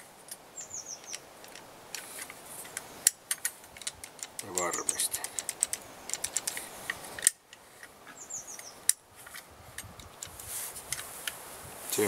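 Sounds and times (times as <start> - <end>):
bird chirping: 0.0 - 10.3
crossbow mechanism clicks: 1.0 - 11.4.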